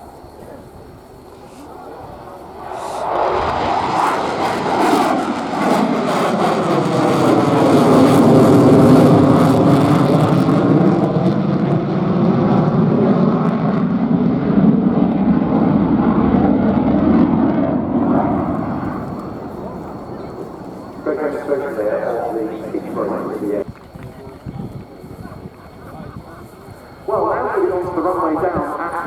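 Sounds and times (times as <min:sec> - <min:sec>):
fighter jet roar passing: 0:00.0 - 0:23.7, 0:24.8 - 0:29.0.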